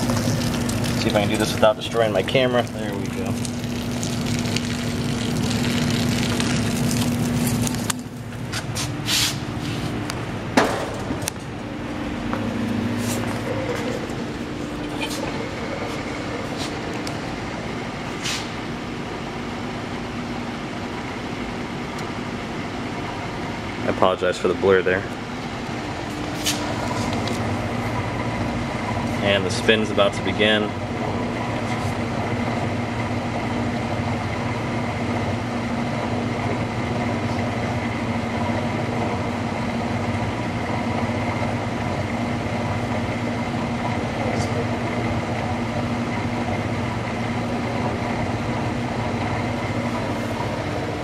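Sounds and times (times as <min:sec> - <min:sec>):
washing machine drain pump hum: 0:00.0 - 0:51.0.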